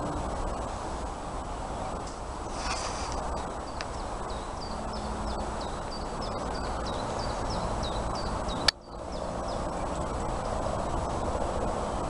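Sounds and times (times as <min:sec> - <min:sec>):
rustling hiss: 0:00.0 - 0:12.0
songbird chirping: 0:01.4 - 0:11.7.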